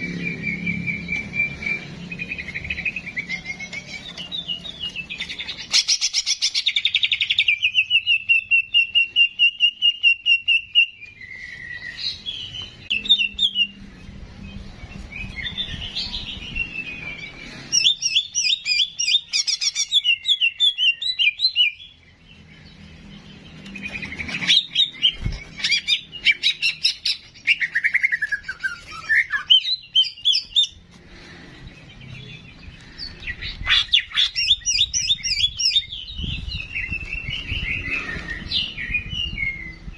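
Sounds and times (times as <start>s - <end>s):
songbird trilling and chirping: 0.0s - 30.9s, 31.7s - 39.9s.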